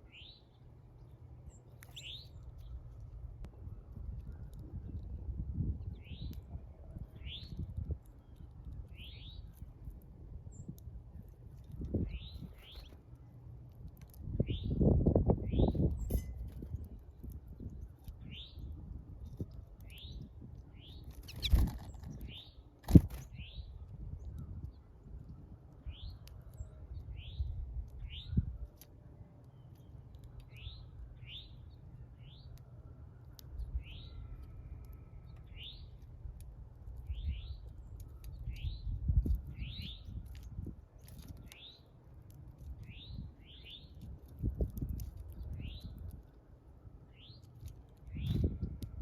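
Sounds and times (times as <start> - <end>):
small bird chirping: 0.0 - 3.2, 5.6 - 13.0, 14.3 - 28.8, 29.5 - 32.6, 33.2 - 36.1, 36.9 - 41.9, 42.6 - 46.2, 47.1 - 48.8.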